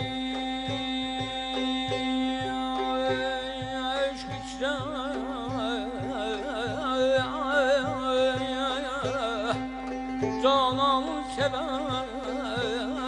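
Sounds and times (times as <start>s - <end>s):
low drum beat: 0.0s - 13.0s.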